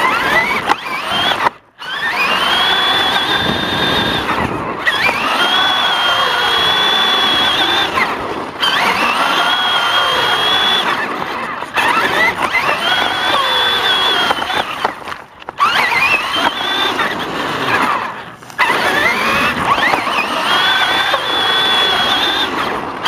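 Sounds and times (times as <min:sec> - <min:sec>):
rc car motor whining: 0:00.0 - 0:23.0.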